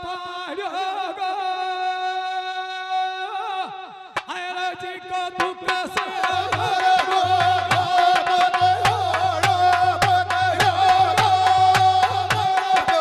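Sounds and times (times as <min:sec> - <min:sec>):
man singing a long high note: 0:00.0 - 0:13.0.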